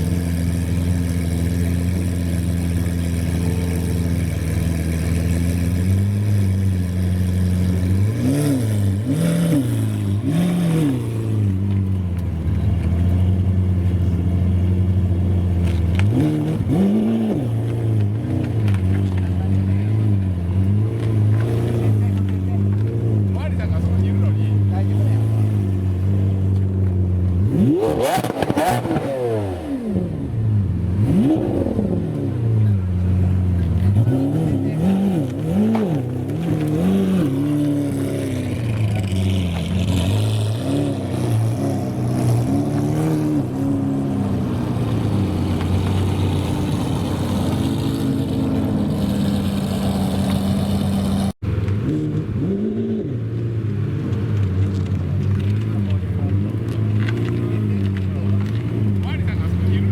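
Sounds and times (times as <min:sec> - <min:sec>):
sports car engine throttle blips: 0:00.0 - 0:59.9.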